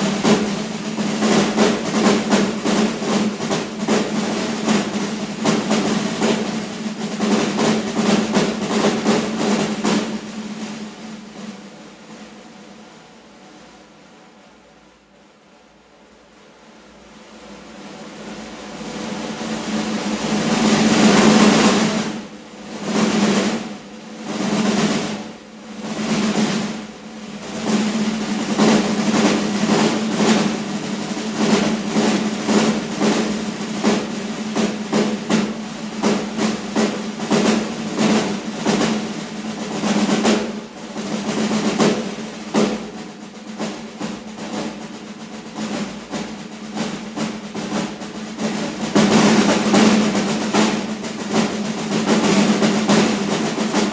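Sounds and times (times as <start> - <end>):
snare drum rolls and strokes: 0.0 - 53.9.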